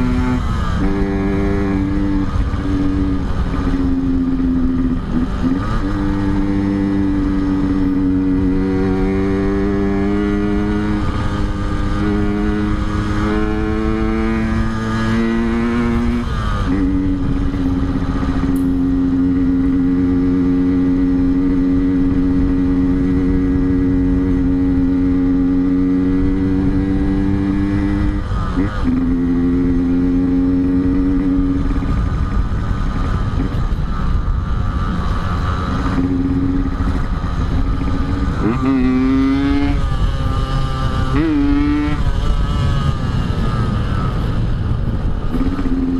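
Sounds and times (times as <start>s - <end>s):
two-stroke motorcycle engine: 0.0s - 45.9s.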